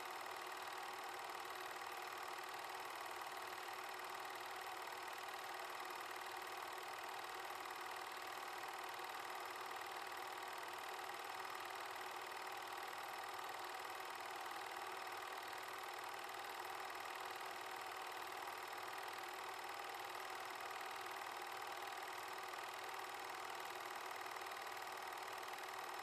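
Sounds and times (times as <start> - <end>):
film projector whirring: 0.0 - 26.0.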